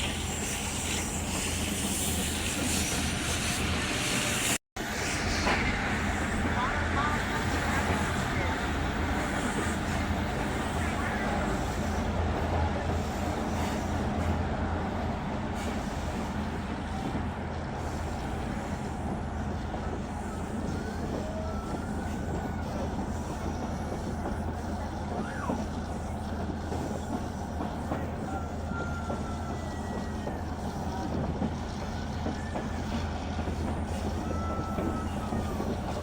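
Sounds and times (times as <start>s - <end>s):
faint train squeals: 0.0s - 36.0s
train rumbling on track: 0.0s - 36.0s.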